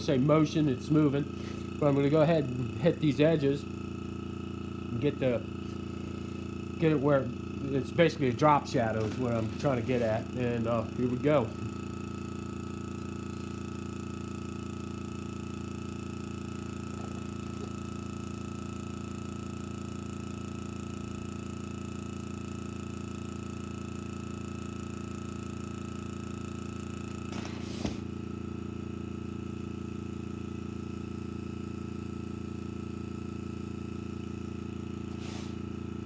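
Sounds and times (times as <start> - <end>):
air compressor humming: 0.0 - 36.0.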